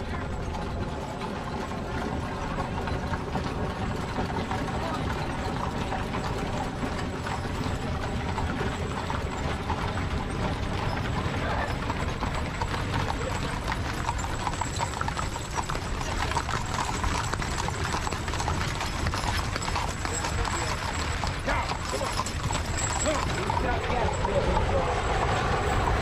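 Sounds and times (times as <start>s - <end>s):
hooves clip-clopping on asphalt: 0.0s - 26.0s.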